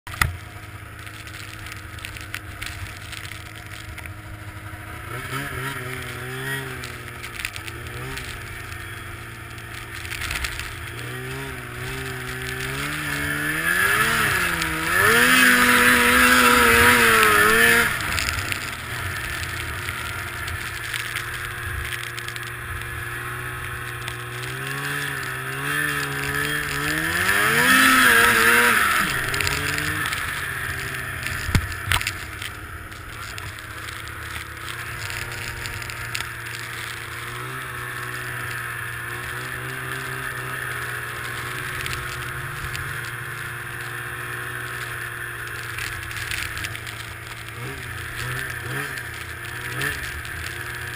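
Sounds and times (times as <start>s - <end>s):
snowmobile engine revving: 0.4s - 50.9s.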